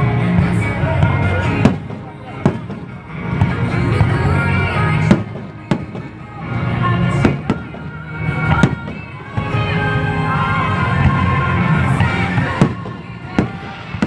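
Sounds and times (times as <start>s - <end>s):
music playing: 0.0s - 14.0s
fireworks bangs: 1.0s - 14.0s.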